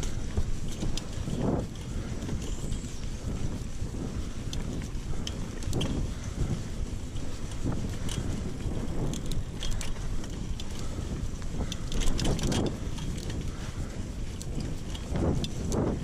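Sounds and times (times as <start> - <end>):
bike clicks and rattles: 0.0 - 16.0
wind buffeting microphone: 0.0 - 16.0.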